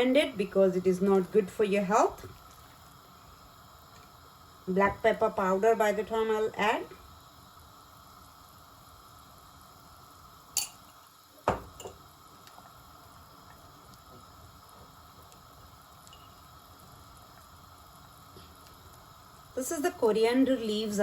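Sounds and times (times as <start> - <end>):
gravy bubbling in a pan: 0.0 - 21.0.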